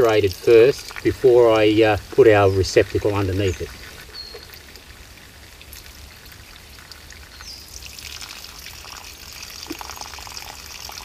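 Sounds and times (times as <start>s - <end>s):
water pouring and trickling: 0.0s - 11.0s.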